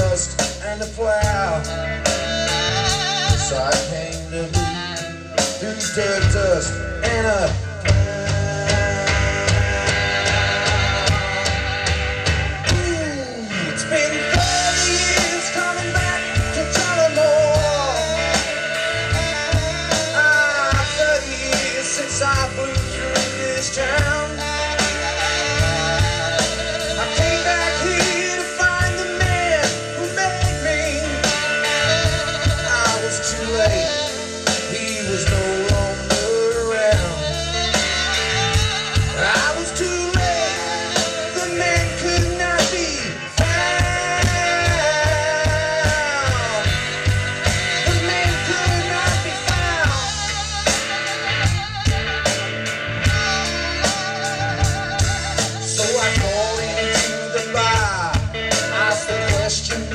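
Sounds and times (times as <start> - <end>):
bass guitar: 0.0 - 59.9
drum kit beat: 0.0 - 59.9
electric guitar: 0.0 - 59.9
saxophone lead: 0.0 - 59.9.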